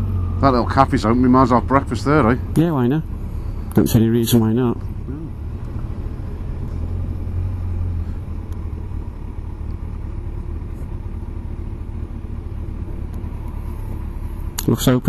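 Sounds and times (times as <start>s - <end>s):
motorcycle engine: 0.0s - 15.0s
road rumble: 0.0s - 15.0s.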